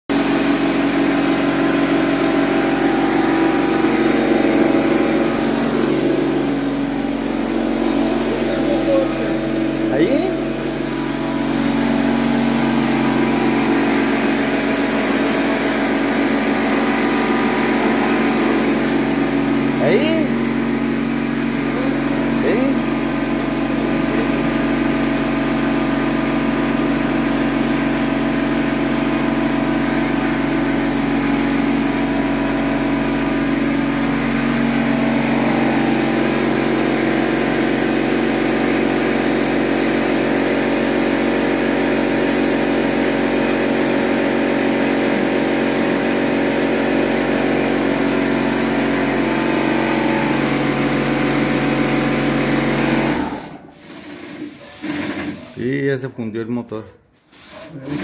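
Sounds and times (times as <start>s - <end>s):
motor humming: 0.1s - 55.5s.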